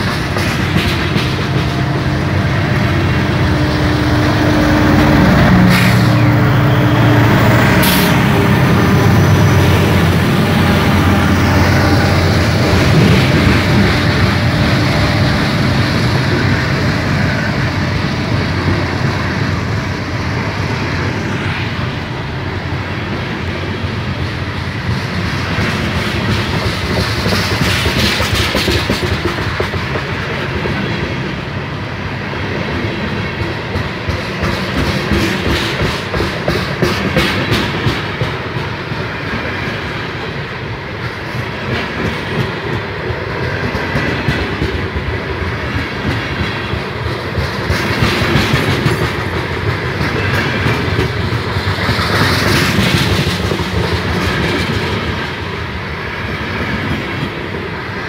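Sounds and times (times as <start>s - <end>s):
train wheels clicking over rail joints: 0.0s - 6.3s, 7.6s - 20.0s, 23.8s - 31.4s, 32.6s - 58.0s
heavy low rumble of train: 0.0s - 58.0s.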